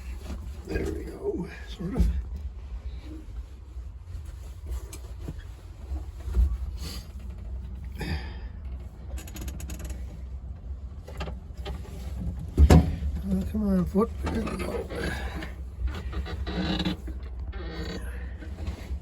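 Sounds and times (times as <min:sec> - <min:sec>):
knocks creaks and rattles in cab: 0:00.0 - 0:19.0.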